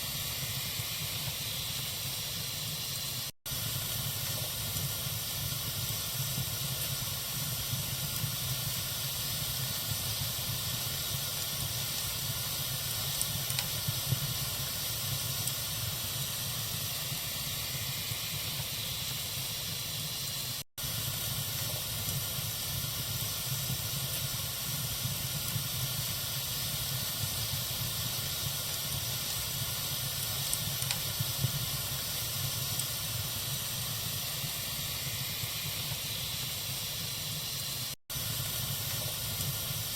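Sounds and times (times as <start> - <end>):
bonfire hissing: 0.0 - 39.9
fire crackles: 0.0 - 39.9.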